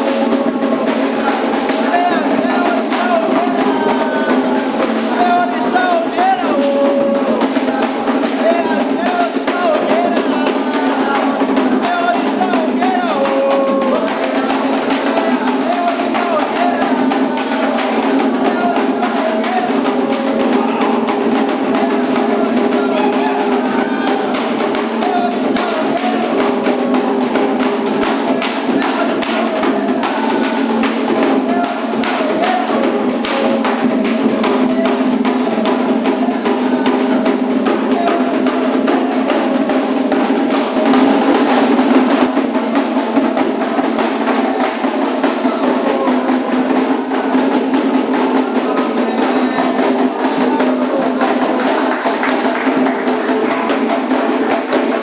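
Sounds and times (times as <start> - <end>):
group singing: 0.0 - 55.0
hand drums beating: 0.0 - 55.0.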